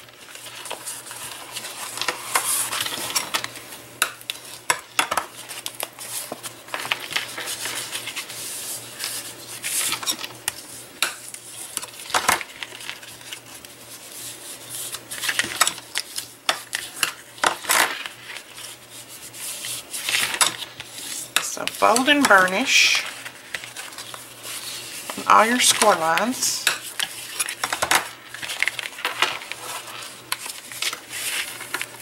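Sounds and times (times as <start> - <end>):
foil-covered card crinkling: 5.3 - 32.0.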